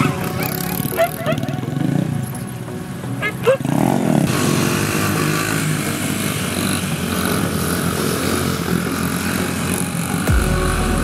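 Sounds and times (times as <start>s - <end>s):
small motorbike engines running: 0.0s - 10.3s.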